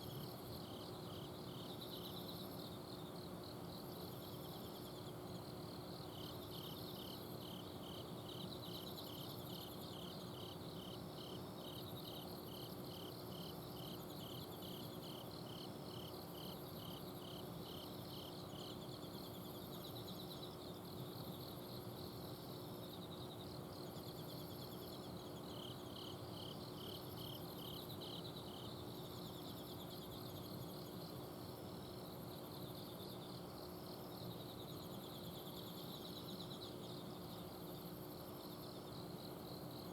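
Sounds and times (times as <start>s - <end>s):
cricket chirps: 0.0s - 39.9s
crickets trilling: 0.0s - 39.9s.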